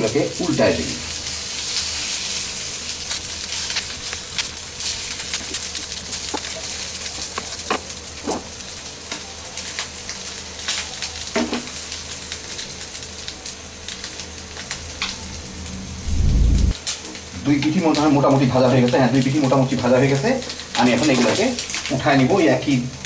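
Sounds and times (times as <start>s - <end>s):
fish roe sizzling in oil: 0.0s - 23.0s.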